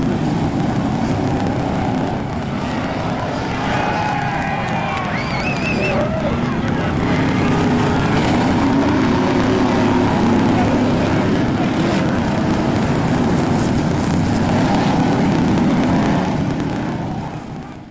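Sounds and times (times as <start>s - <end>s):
race car engines droning: 0.0s - 17.9s.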